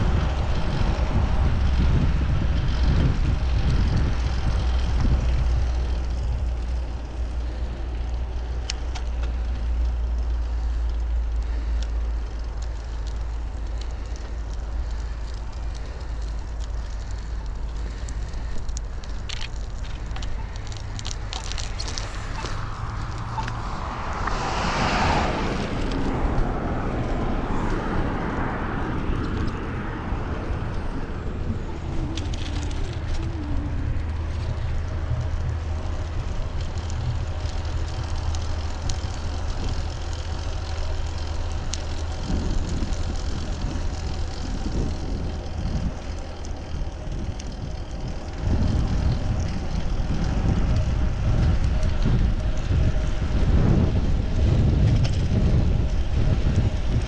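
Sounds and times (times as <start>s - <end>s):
wind on microphone: 0.0s - 8.6s, 16.7s - 57.0s
bicycle tyres rumbling on road: 0.0s - 57.0s
passing motor traffic: 0.0s - 57.0s
steady low hum: 0.0s - 57.0s.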